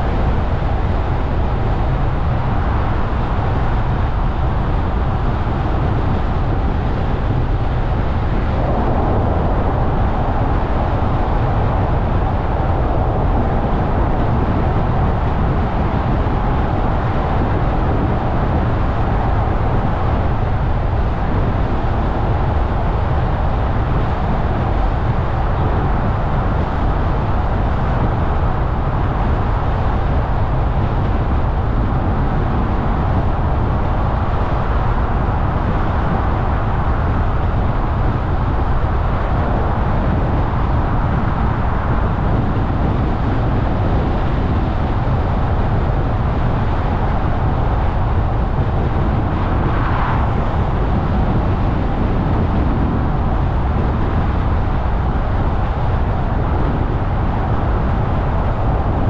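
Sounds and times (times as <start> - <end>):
car tyres and engine rumble: 0.0 - 59.0.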